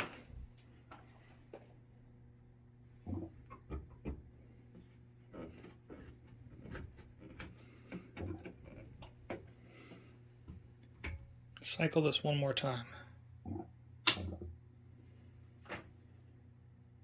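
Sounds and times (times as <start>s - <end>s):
furnace low hum: 0.0s - 17.0s.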